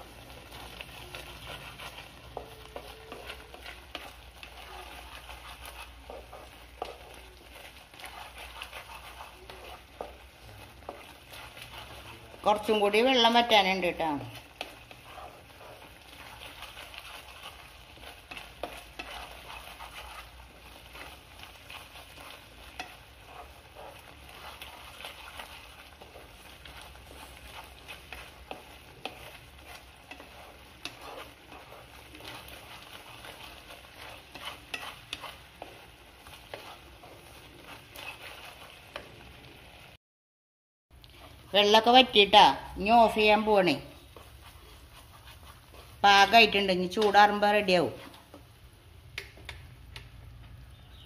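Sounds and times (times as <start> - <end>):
wooden spatula scraping pan: 0.0 - 39.7, 41.0 - 48.5
syrup bubbling and sizzling: 0.0 - 40.0, 40.9 - 51.0.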